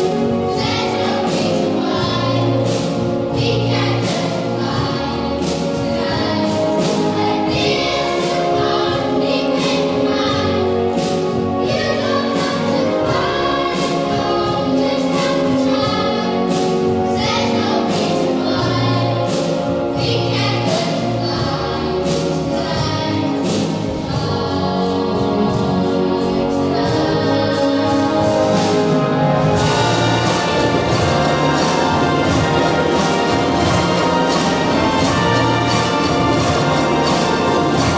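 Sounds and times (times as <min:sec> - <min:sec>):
choir singing: 0:00.0 - 0:37.9
drums striking steady beat: 0:00.0 - 0:37.9
symphony orchestra: 0:00.0 - 0:37.9.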